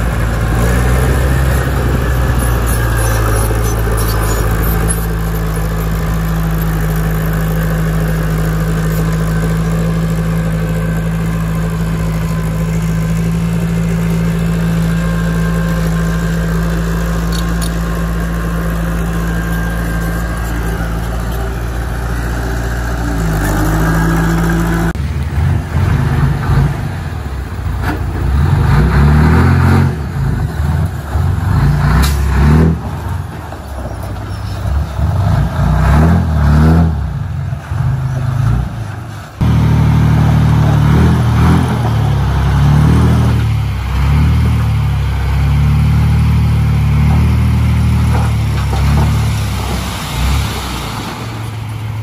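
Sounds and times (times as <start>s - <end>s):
bulldozer diesel engine working: 0.0s - 52.0s.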